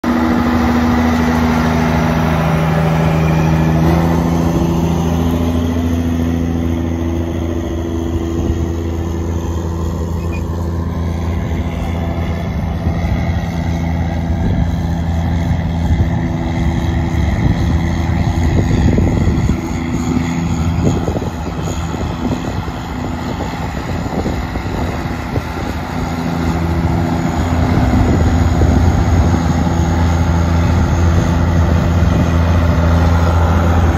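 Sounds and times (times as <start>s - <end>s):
tractor diesel engine droning: 0.0s - 33.9s.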